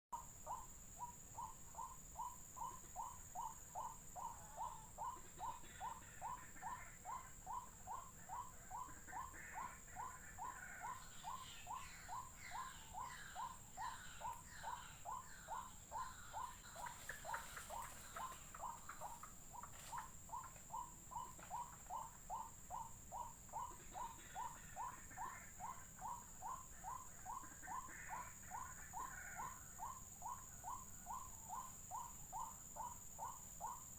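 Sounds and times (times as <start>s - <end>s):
waterhen low repeated call: 0.2s - 33.9s
higher chattering bird calls: 0.5s - 29.6s.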